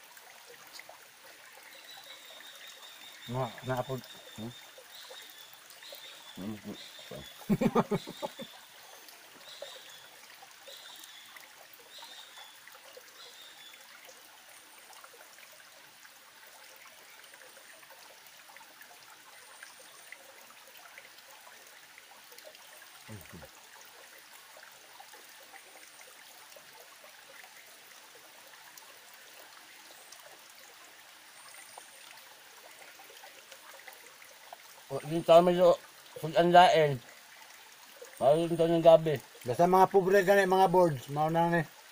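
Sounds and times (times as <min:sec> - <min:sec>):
stream trickling over rocks: 0:00.0 - 0:41.9.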